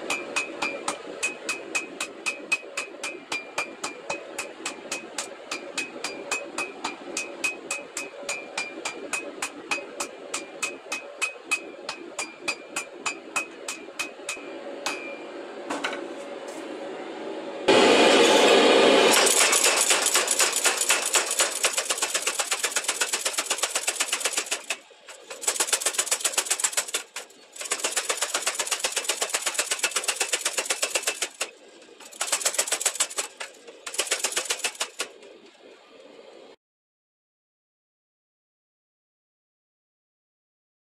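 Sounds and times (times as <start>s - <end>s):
power hammer pounding metal: 0.0s - 16.0s, 17.7s - 35.2s.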